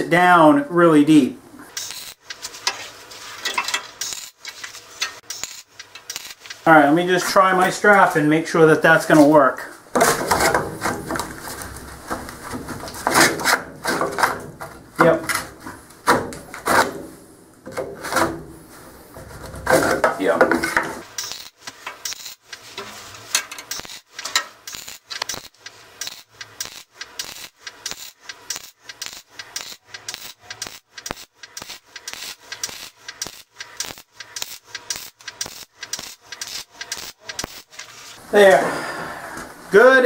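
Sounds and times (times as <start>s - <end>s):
welding arc crackling: 1.6s - 8.3s, 8.9s - 17.2s, 19.3s - 38.3s
wood scraping against steel: 1.7s - 8.2s, 9.0s - 39.6s.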